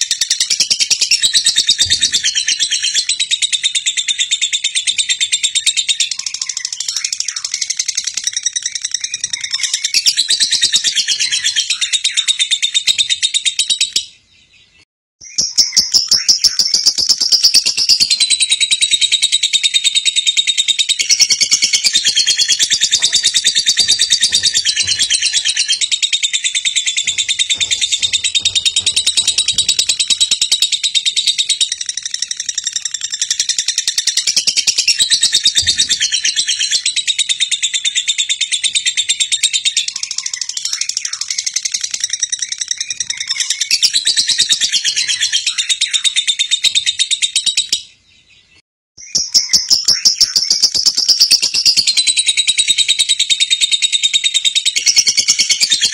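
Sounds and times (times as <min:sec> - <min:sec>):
bird fast high chattering song: 0:00.0 - 0:14.2, 0:15.2 - 0:47.9, 0:49.0 - 0:55.9.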